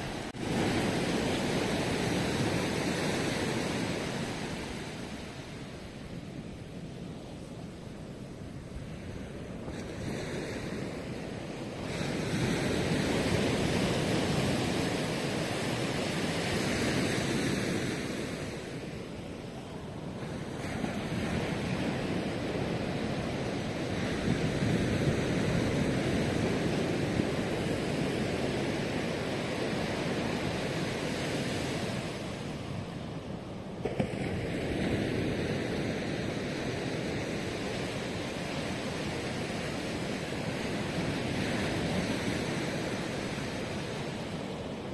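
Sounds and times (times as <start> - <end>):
waves breaking on beach: 0.0 - 44.9
wind on microphone: 0.0 - 44.9.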